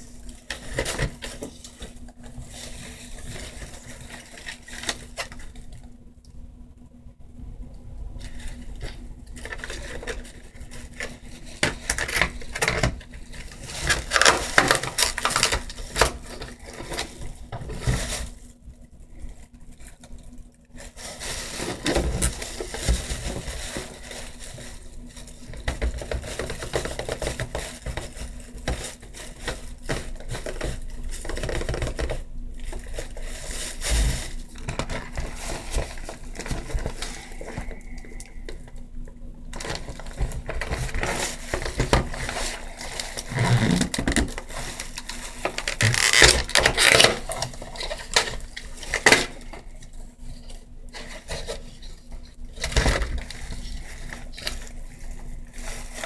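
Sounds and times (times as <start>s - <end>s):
small hard items clicking and scraping: 8.2s - 18.4s, 19.2s - 56.0s.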